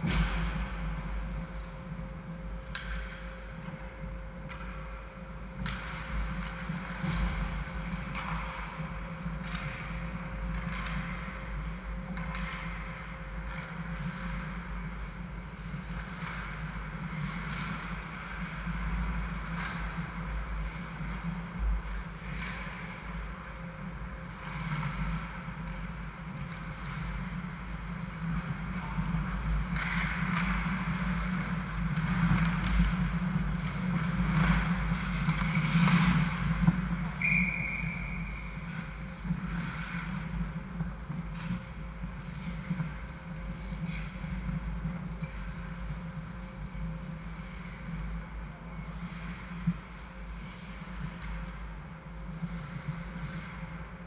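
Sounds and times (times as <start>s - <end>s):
stick and puck clacks: 0.0s - 2.0s, 2.6s - 3.8s, 4.4s - 54.0s
steady low hum: 0.0s - 54.0s
skates scraping ice: 5.5s - 54.0s.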